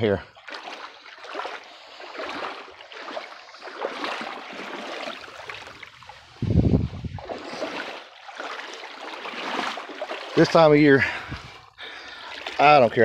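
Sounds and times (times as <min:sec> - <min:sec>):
creek water splashing: 0:00.0 - 0:13.0.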